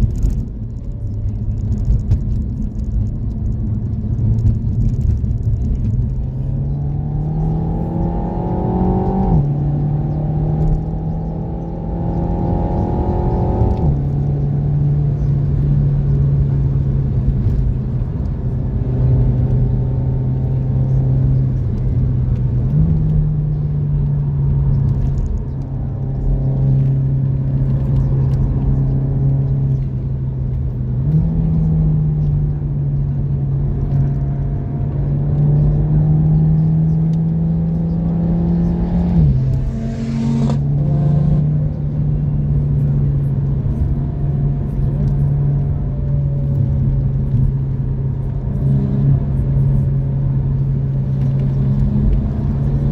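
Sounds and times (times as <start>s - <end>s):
car engine accelerating through gears: 0.0s - 52.9s
road rumble: 0.0s - 52.9s.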